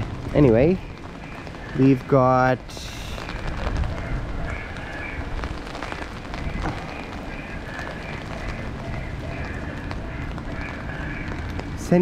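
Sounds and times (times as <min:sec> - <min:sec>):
footsteps on wet paving: 0:00.0 - 0:12.0
rain on an umbrella: 0:00.0 - 0:12.0.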